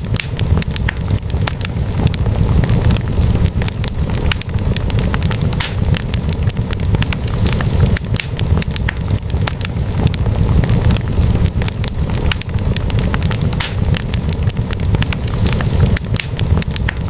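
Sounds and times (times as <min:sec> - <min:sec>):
burning logs crackling and popping: 0:00.0 - 0:17.0
low rumble of flames: 0:00.0 - 0:17.0.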